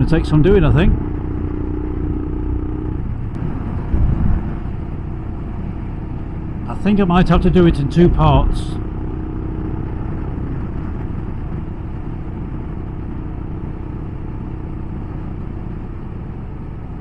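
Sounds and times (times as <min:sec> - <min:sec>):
motorcycle engine running: 0:00.0 - 0:17.0
road noise: 0:00.0 - 0:17.0
wind: 0:00.0 - 0:17.0.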